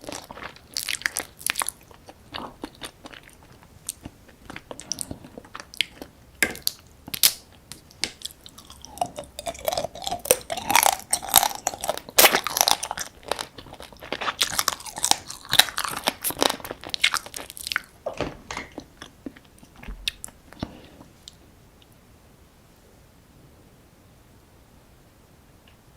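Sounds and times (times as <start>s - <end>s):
crunching and chewing crab: 0.0s - 21.0s.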